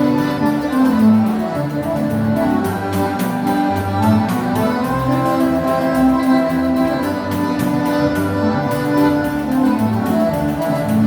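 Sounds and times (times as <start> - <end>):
accordion dance music: 0.0 - 11.0.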